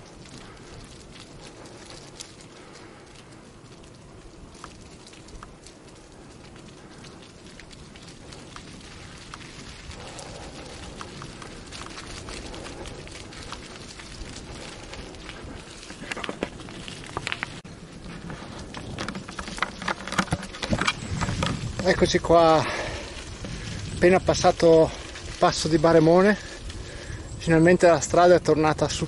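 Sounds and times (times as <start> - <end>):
bike tyres rolling over dry leaves: 0.0 - 29.0.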